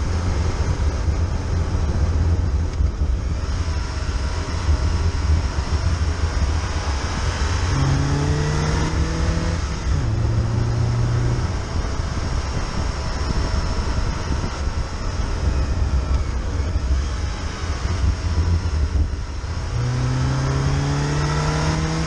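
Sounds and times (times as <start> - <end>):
car engine: 0.0 - 22.0
road and wind noise: 0.0 - 22.0.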